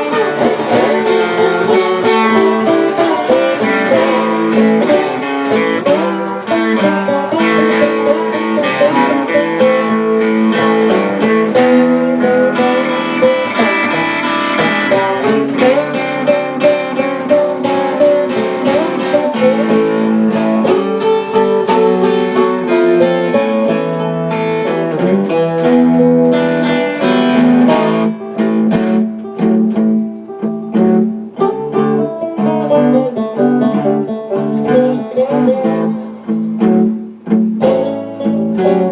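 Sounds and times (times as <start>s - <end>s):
acoustic guitar blues playing: 0.0s - 38.9s.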